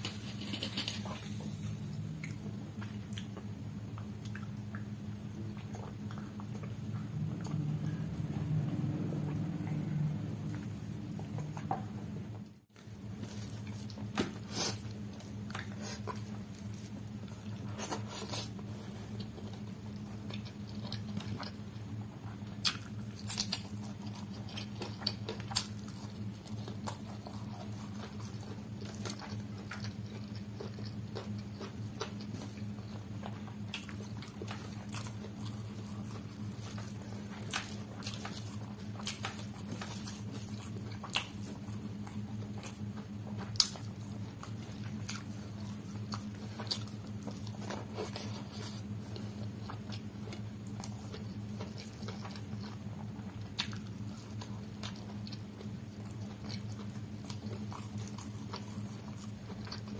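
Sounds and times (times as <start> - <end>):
wet chewing and mouth clicks: 0.0 - 12.5, 13.2 - 59.9
low hum: 0.0 - 59.9.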